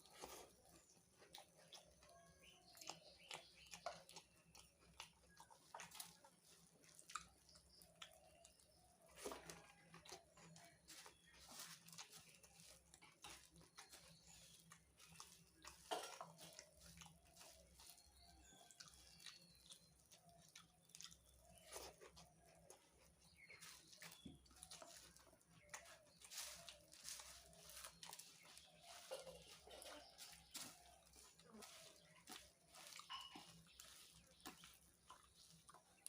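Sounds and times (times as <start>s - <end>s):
chewing and crunching puffed rice: 0.0s - 36.0s.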